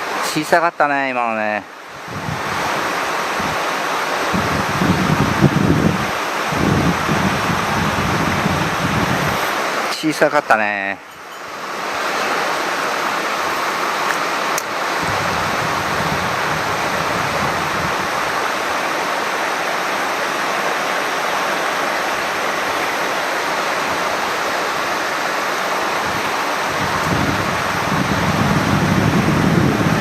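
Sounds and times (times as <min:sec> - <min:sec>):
stream water running: 0:00.0 - 0:30.0.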